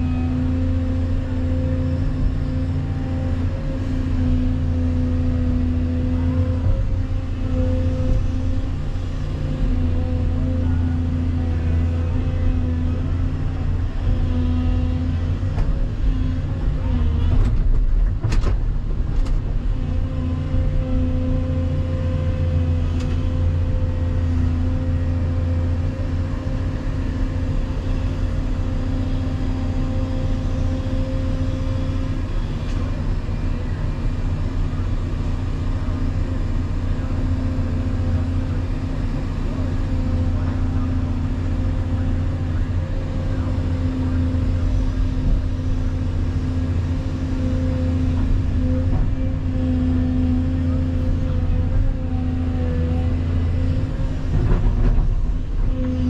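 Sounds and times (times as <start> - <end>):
excavator engine and hydraulics: 0.0 - 56.0.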